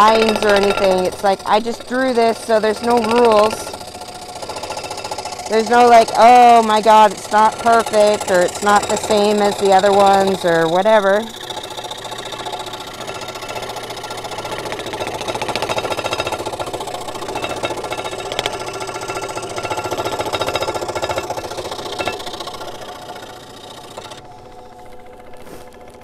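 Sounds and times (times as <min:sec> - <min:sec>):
scroll saw cutting wood: 0:00.0 - 0:26.0.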